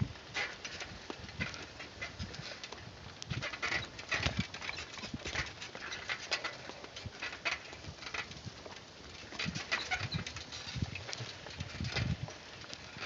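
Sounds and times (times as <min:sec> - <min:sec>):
saddle creaking and rustling: 0:00.0 - 0:13.0
hoof knocks: 0:00.4 - 0:12.8.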